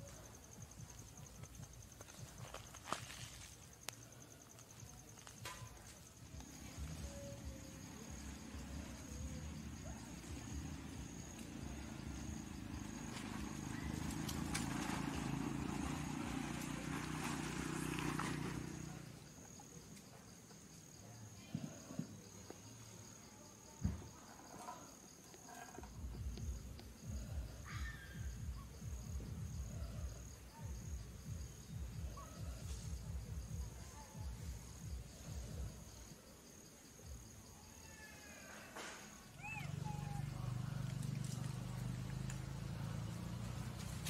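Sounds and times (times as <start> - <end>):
insect trill: 0.0 - 44.0.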